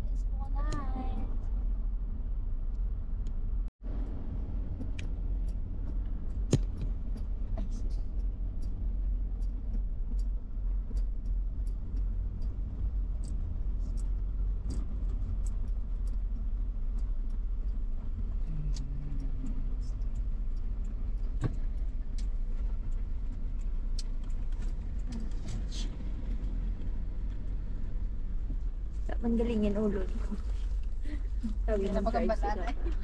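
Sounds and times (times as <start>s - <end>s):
car cabin road rumble: 0.0s - 33.0s
light clicks and rattles: 4.0s - 33.0s.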